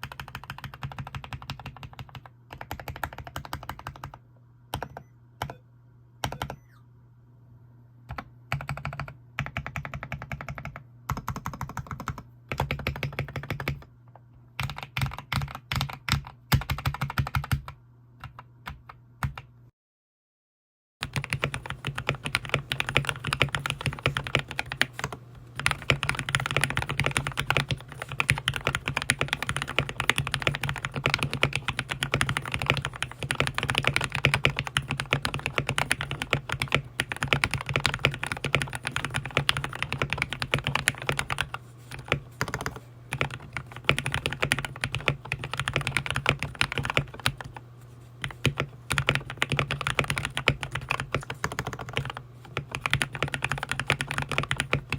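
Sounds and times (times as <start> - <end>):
mechanical keyboard typing: 0.0 - 5.6, 6.2 - 6.7, 8.1 - 13.9, 14.6 - 19.5, 21.0 - 47.6, 48.2 - 54.9
steady low hum: 0.1 - 15.6, 21.0 - 54.9.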